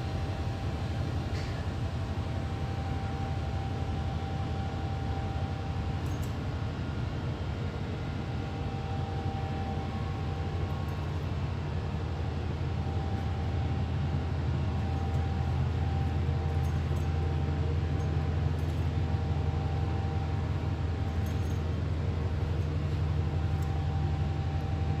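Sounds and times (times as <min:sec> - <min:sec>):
faint steady whine: 0:00.0 - 0:25.0
ventilation and refrigeration hum: 0:00.0 - 0:25.0.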